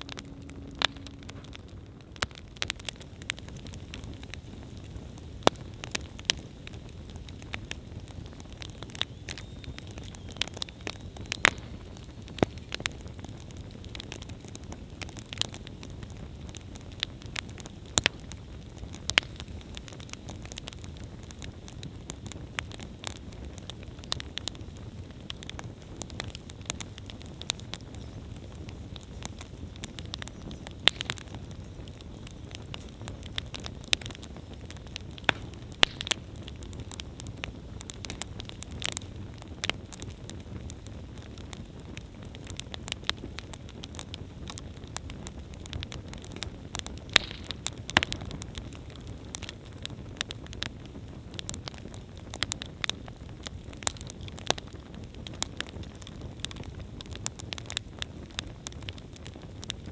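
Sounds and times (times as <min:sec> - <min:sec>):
burning wood crackling and popping: 0:00.0 - 0:59.9
campfire flames rumbling: 0:00.0 - 0:59.9.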